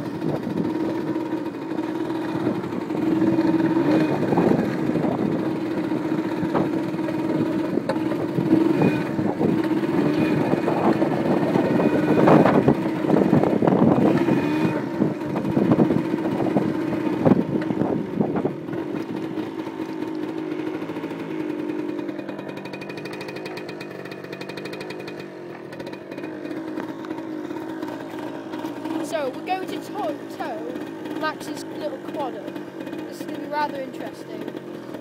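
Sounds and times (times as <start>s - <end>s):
quad engine running: 0.0s - 35.0s.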